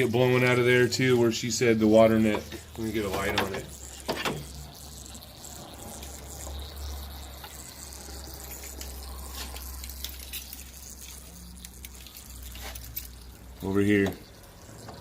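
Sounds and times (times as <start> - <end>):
coolant hissing and trickling: 0.0 - 15.0.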